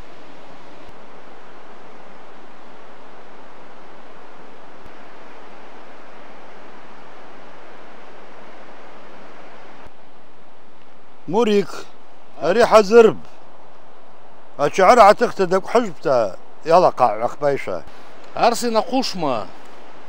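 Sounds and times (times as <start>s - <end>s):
river water rushing: 0.0s - 16.9s, 17.8s - 20.0s.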